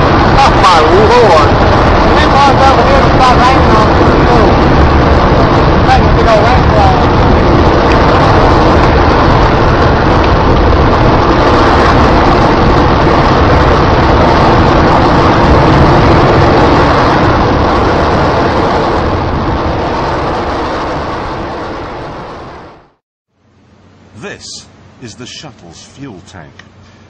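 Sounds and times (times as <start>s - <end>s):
rocket engine firing: 0.0s - 23.0s.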